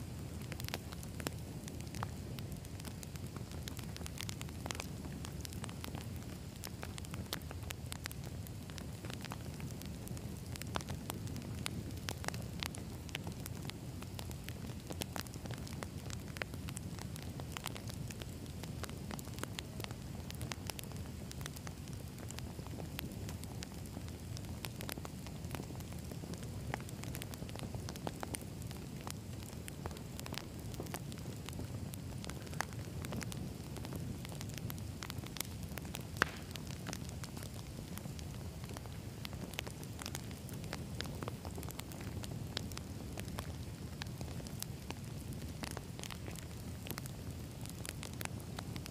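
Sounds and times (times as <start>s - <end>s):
logs crackling and popping: 0.0s - 48.9s
low rumble of flames: 0.0s - 48.9s.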